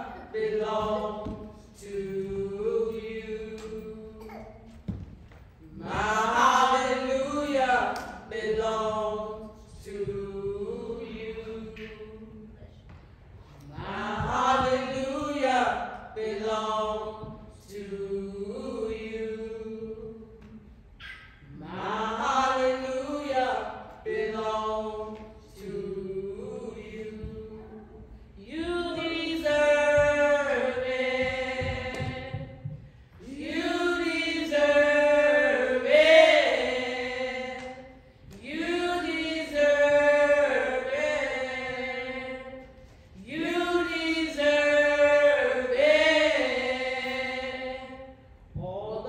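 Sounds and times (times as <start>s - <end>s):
slow church singing: 0.0s - 49.0s.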